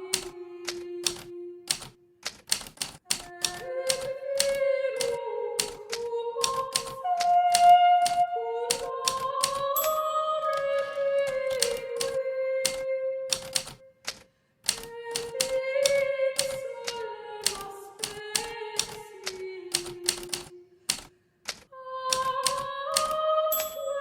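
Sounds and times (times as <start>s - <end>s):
typewriter key strikes: 0.1s - 23.8s.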